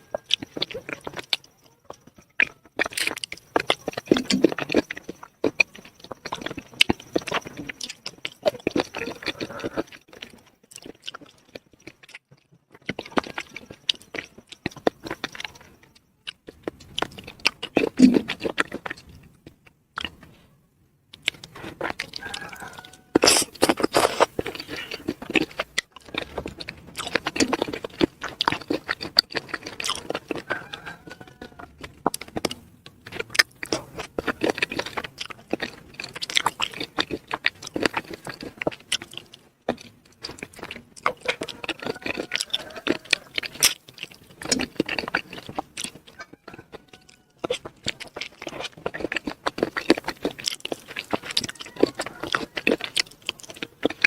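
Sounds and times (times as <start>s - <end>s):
wet crunchy chewing: 0.0s - 54.0s.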